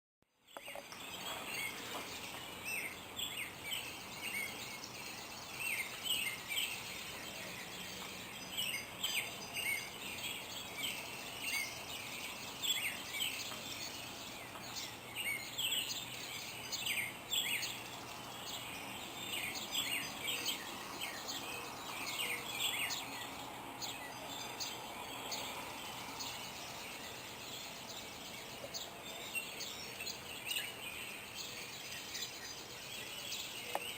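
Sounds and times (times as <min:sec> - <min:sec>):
steady background hiss: 0:00.3 - 0:33.9
songbirds chirping and whistling: 0:00.4 - 0:33.9.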